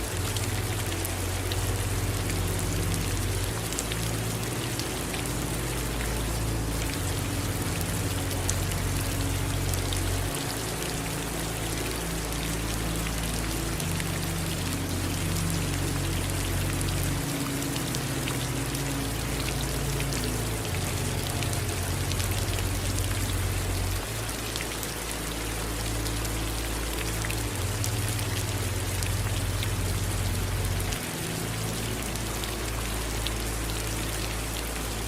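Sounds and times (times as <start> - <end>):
rain falling: 0.0 - 35.0
raindrops ticking: 0.0 - 35.0.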